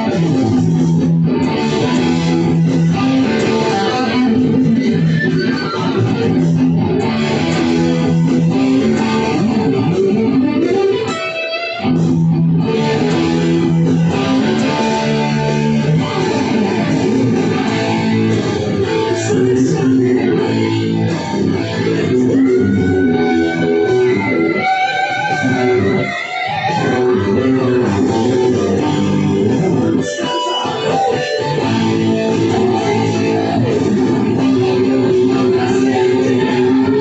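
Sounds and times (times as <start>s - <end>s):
bass guitar: 0.0s - 37.0s
rock music with electric guitar: 0.0s - 37.0s.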